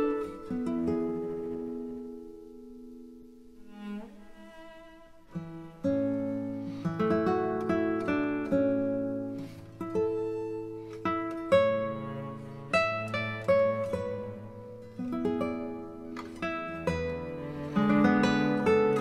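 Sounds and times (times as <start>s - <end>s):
plucked guitar: 0.0s - 19.0s.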